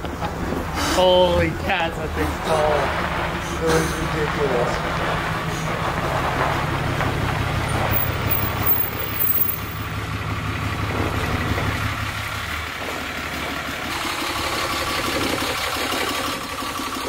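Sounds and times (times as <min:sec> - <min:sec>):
pickup truck engine rumble: 0:00.0 - 0:17.0.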